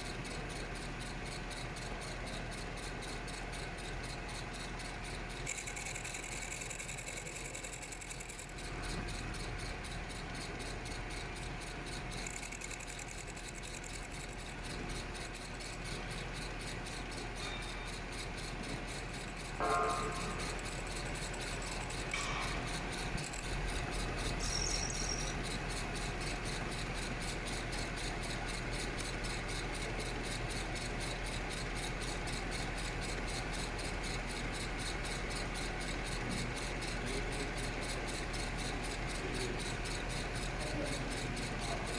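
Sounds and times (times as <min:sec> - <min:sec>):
machinery humming with fast pulse: 0:00.0 - 0:41.9.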